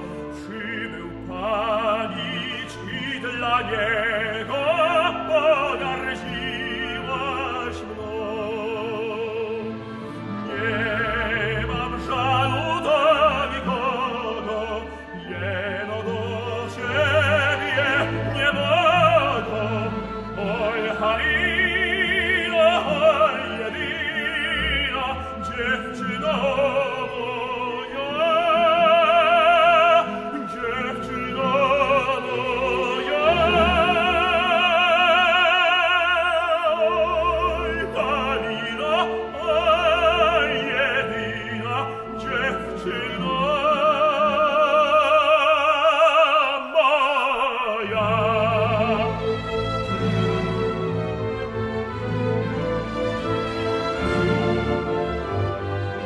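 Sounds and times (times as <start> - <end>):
operatic tenor singing: 0.0 - 56.0
symphony orchestra: 0.0 - 56.0.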